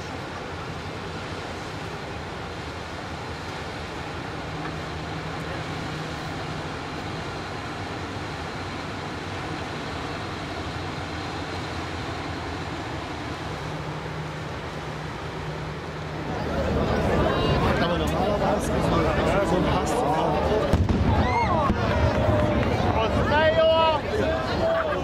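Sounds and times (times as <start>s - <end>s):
boat diesel engine drone: 0.0s - 25.0s
churning wake: 0.0s - 25.0s.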